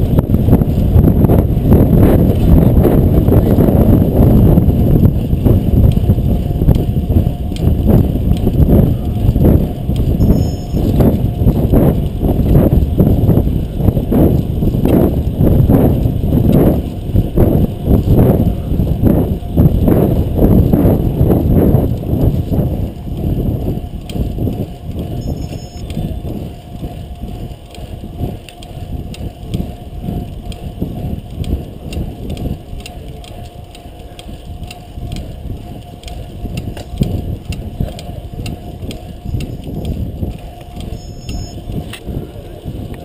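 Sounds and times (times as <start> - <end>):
bicycle rattling clicks: 0.0 - 43.0
road and wind rumble: 0.0 - 43.0.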